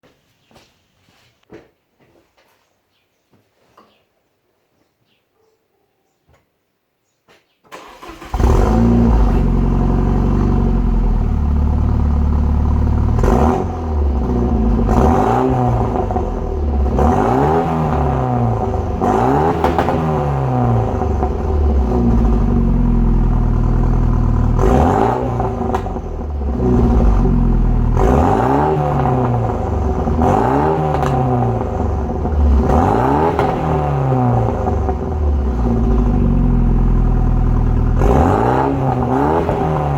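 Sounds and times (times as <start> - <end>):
car engine starting and revving: 7.7 - 39.9.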